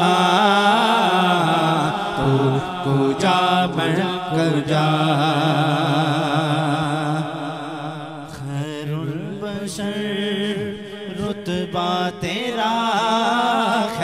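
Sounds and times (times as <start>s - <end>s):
man singing long notes: 0.0s - 14.0s.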